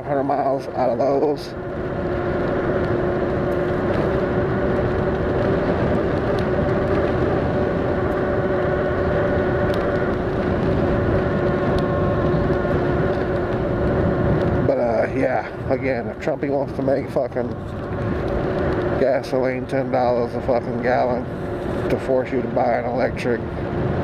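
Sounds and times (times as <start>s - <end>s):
tyres on road: 0.0s - 24.0s
wind noise: 0.0s - 24.0s.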